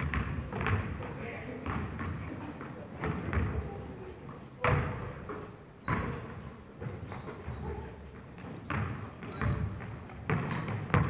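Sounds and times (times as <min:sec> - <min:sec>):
basketball bouncing on wooden floor: 0:00.0 - 0:11.0.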